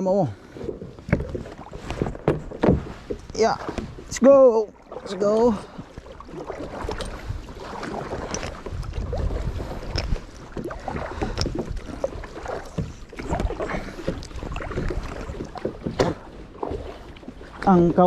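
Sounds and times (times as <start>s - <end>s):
water splashing: 0.0s - 18.0s
wind rumbling on microphone: 0.3s - 18.0s
knocks around small boat: 0.5s - 18.0s.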